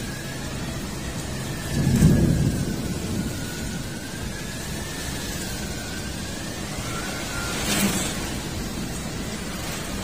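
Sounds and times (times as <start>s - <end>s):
heavy rain and wind: 0.0s - 10.0s.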